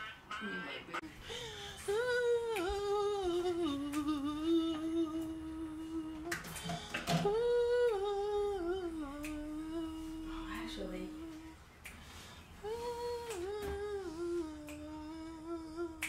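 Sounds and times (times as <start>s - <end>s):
woman humming a slow tune: 1.8s - 11.6s, 12.6s - 16.0s.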